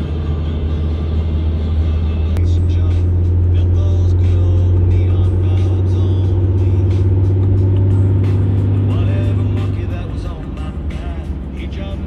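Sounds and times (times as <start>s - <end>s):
engine and road noise drone: 0.0s - 12.0s
music playing: 0.0s - 12.0s.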